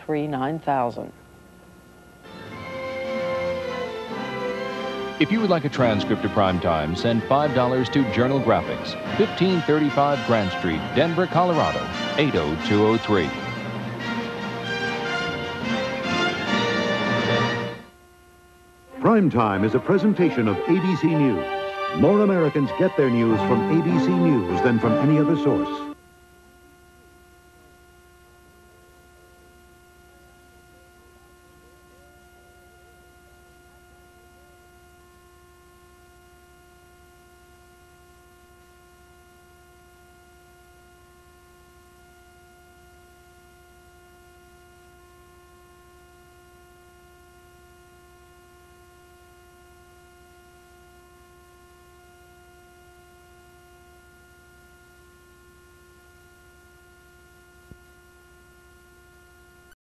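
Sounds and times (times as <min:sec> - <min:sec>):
faint electrical hum: 0:00.0 - 0:59.8.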